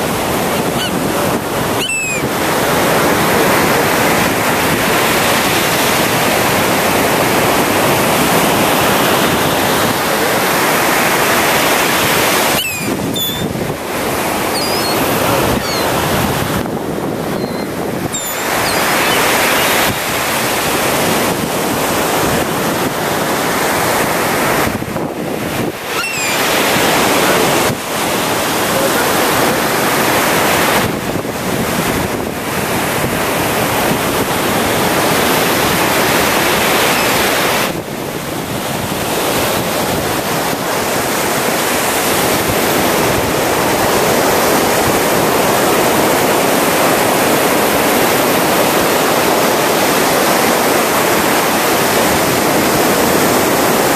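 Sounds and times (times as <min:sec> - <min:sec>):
ocean surf breaking: 0:00.0 - 0:53.9
wind buffeting microphone: 0:00.0 - 0:53.9.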